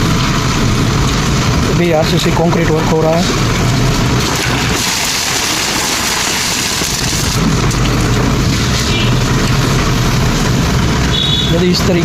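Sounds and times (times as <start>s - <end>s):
construction machinery engine hum: 0.0s - 12.0s.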